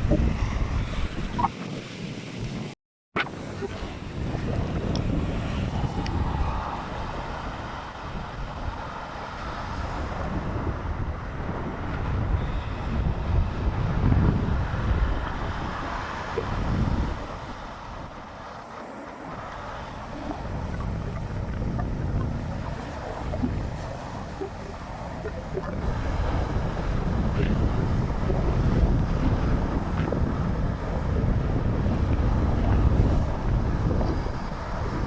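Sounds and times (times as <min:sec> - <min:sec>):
waves: 0:00.0 - 0:35.0
wind buffeting microphone: 0:00.0 - 0:35.0.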